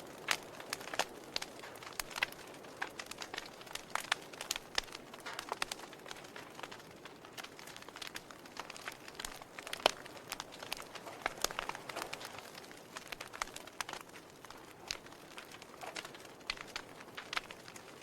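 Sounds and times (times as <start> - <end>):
soft steady hiss: 0.0 - 18.0
wood fire crackling: 0.0 - 18.0.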